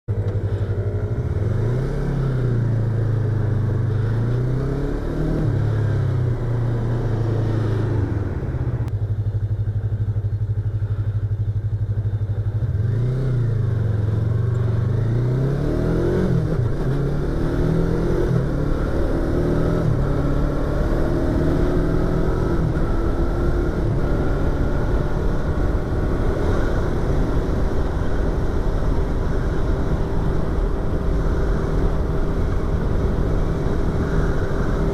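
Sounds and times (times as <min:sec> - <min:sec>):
motorcycle engine revving and accelerating: 0:00.1 - 0:09.0, 0:10.3 - 0:34.9.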